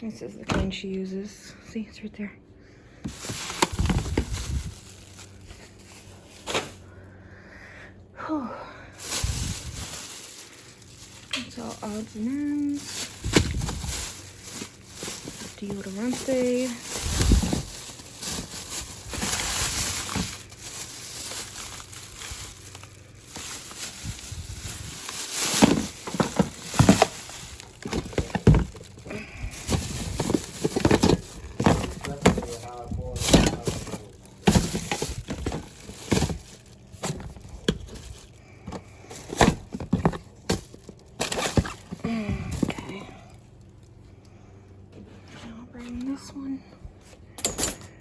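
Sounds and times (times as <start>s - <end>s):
packaging crinkling and rustling: 3.0s - 7.0s, 8.9s - 44.0s.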